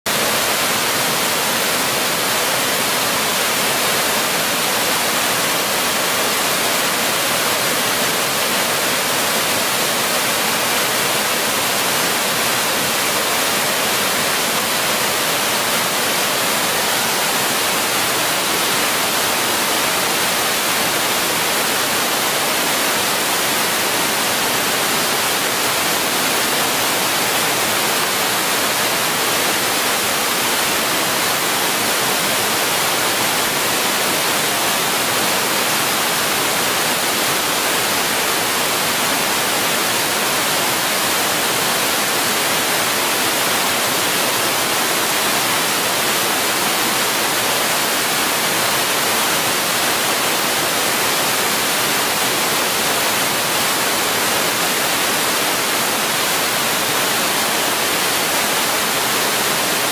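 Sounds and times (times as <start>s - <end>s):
waterfall rushing over rocks: 0.1s - 59.9s.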